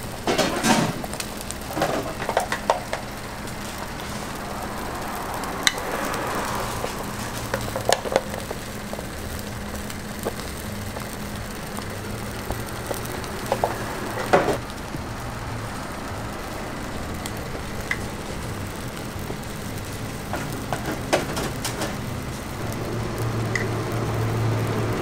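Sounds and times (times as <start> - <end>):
batter sizzling on a griddle: 0.0 - 25.0.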